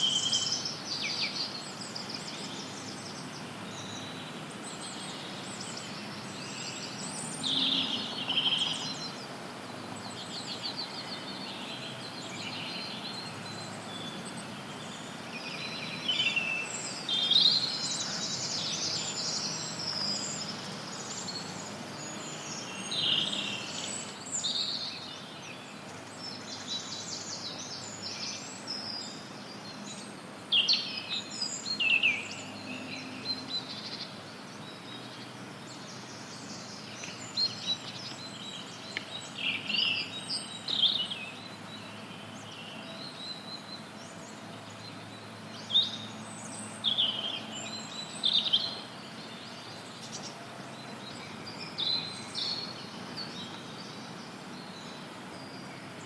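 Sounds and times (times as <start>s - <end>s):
forest birds chirping and singing: 0.0s - 56.0s
steady white noise hiss: 0.0s - 56.0s.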